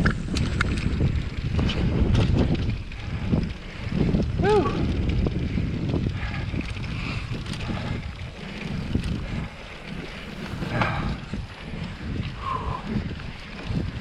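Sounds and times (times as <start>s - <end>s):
bike knocking on trail: 0.0s - 12.4s
low rumble: 0.0s - 14.0s
wind buffeting microphone: 0.0s - 14.0s.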